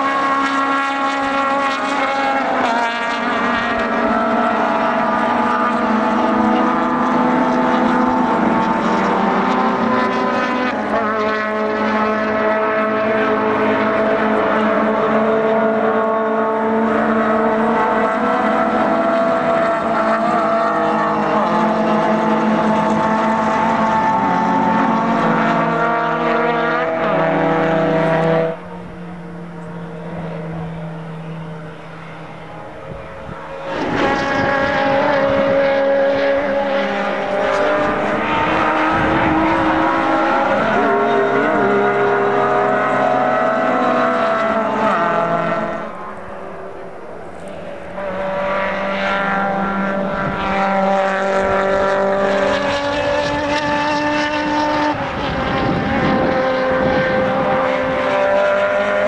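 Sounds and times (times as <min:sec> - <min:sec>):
racing car engines at high revs: 0:00.0 - 0:59.0.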